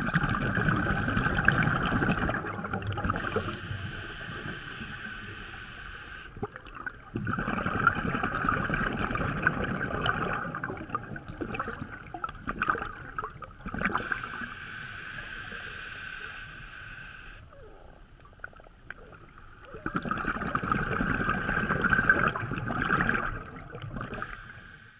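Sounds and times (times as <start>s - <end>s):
underwater bubbles gurgling: 0.0s - 24.8s.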